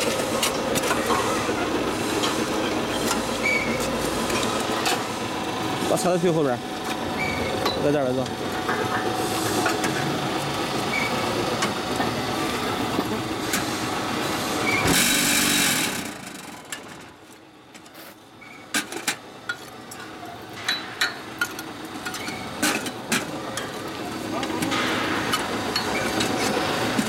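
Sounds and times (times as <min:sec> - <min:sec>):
block machine mechanical hum: 0:00.0 - 0:27.0.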